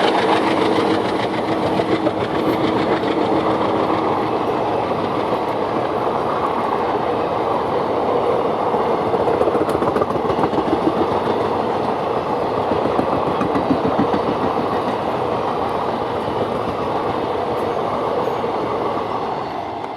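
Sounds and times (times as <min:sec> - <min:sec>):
train rumbling on track: 0:00.0 - 0:19.9.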